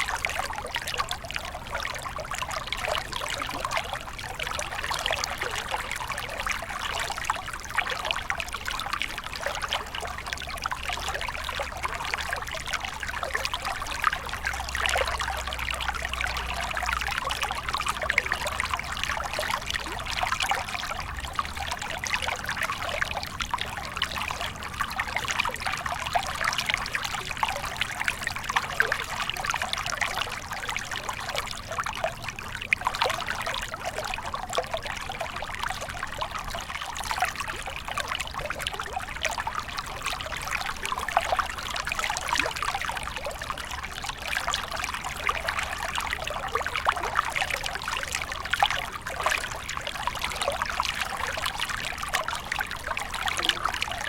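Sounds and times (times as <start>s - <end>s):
stream trickling and babbling: 0.0s - 54.0s.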